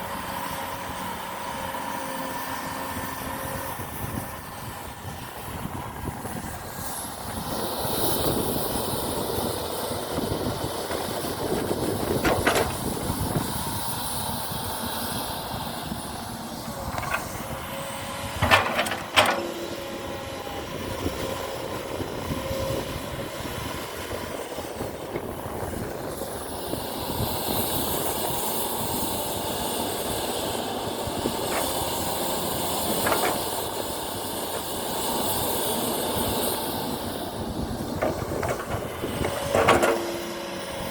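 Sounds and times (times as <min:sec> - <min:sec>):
model excavator motors whirring: 0:01.1 - 0:40.9.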